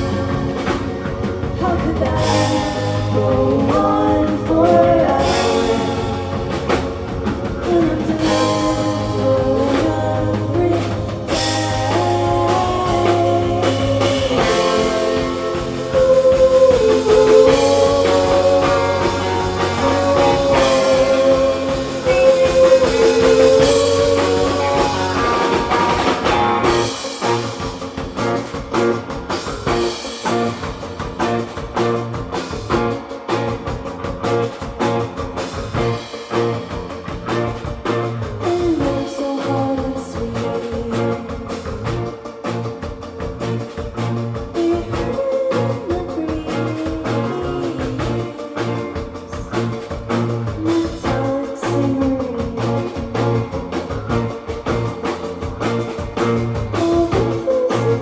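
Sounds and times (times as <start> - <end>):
drums: 0.0 - 58.0
electric guitar melody: 0.0 - 58.0
rock band playing live: 0.0 - 58.0.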